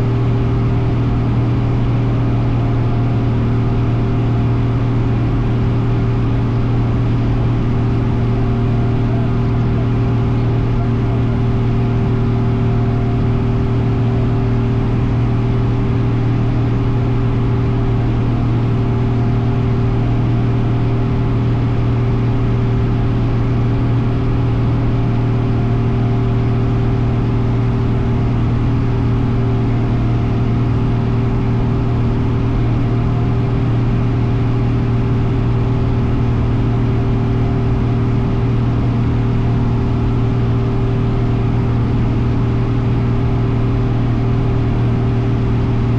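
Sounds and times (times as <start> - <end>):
aircraft engine drone: 0.0 - 45.9.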